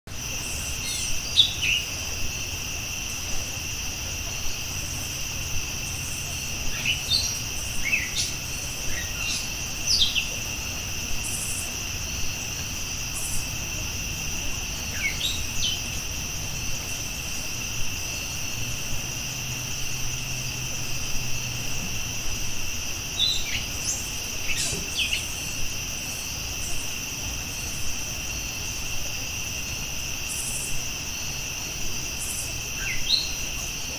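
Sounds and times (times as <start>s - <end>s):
high insect chorus: 0.1s - 33.9s.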